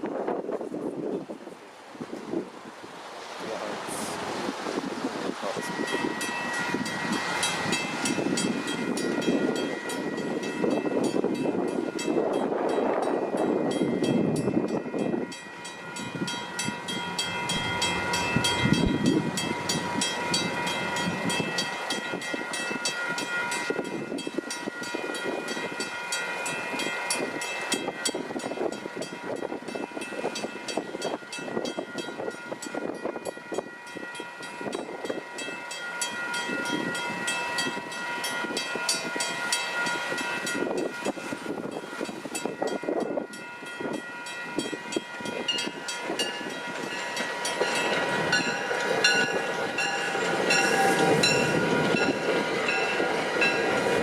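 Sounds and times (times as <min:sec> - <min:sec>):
train rumbling over crossing: 0:00.0 - 0:54.0
railroad crossing bells ringing: 0:05.4 - 0:54.0.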